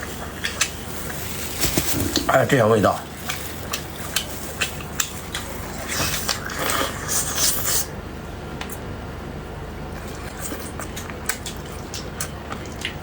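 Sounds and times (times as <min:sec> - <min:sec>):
close eating sounds: 0:00.0 - 0:08.0, 0:09.5 - 0:13.0.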